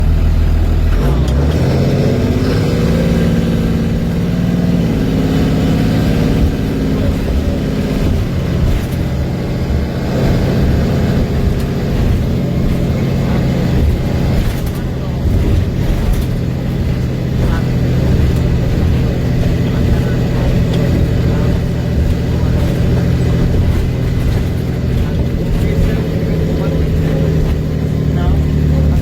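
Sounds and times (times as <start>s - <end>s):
diesel bus engine running: 0.0s - 29.0s.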